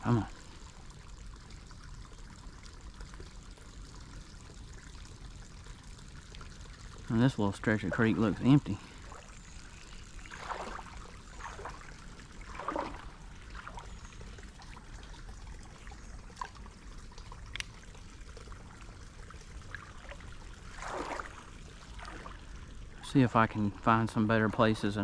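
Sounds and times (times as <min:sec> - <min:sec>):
creek water trickling: 0:00.0 - 0:25.0
soft water splashes: 0:00.0 - 0:25.0.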